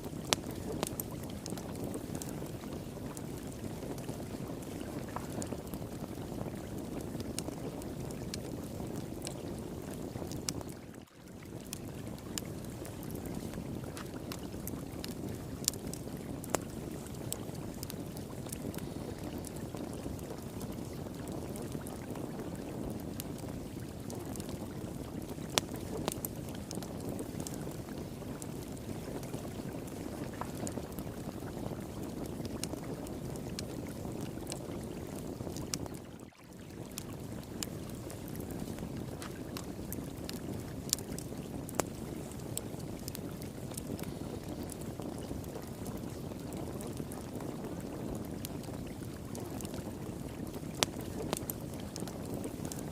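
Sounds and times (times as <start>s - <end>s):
wood fire crackling and popping: 0.0s - 52.9s
flowing water: 0.1s - 52.7s.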